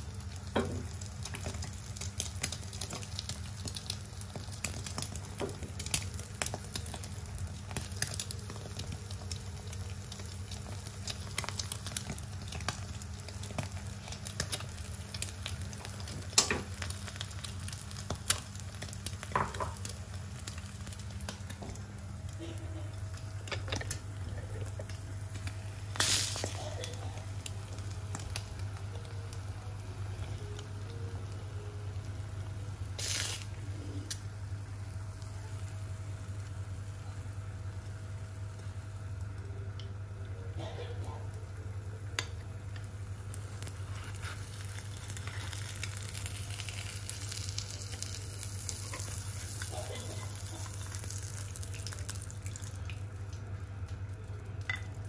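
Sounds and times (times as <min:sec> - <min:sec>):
eggs sizzling in a pan: 0:00.0 - 0:55.0.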